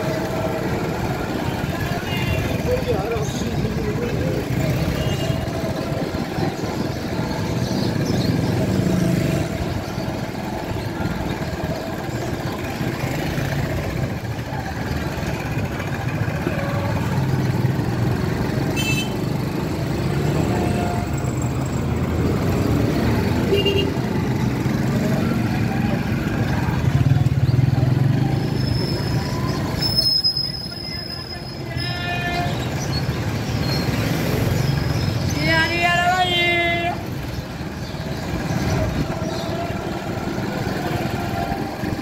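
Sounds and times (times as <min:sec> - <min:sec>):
motorcycle engines passing: 0:00.0 - 0:42.0.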